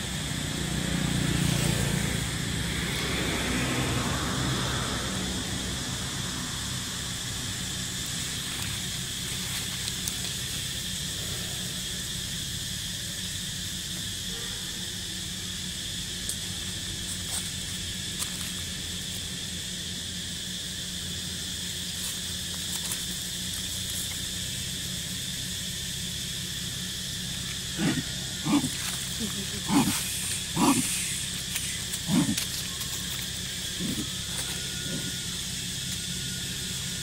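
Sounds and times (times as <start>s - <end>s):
high-pitched insect chorus: 0.0s - 37.0s.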